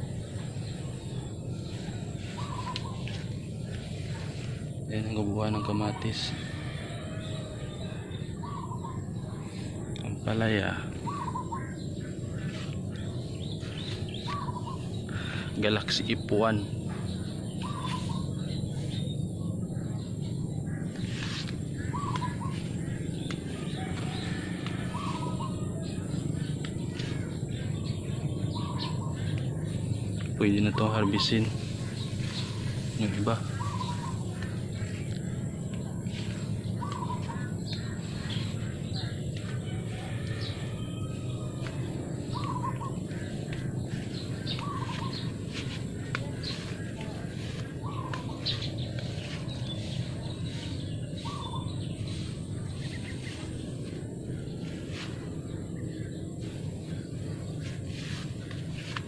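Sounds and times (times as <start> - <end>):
bird warbling call: 0.0 - 59.0
low outdoor rumble: 0.0 - 59.0.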